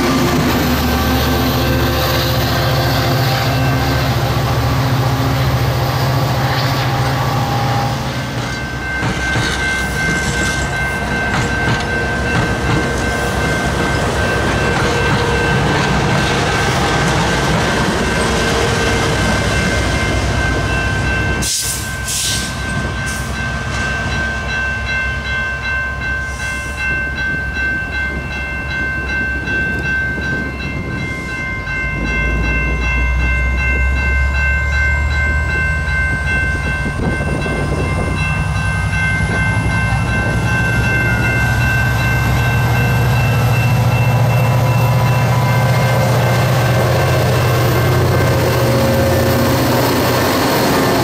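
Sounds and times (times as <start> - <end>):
deep rumble of approaching train: 0.0 - 51.0
diesel locomotive passing: 0.0 - 51.0
level crossing bells ringing: 0.0 - 51.0.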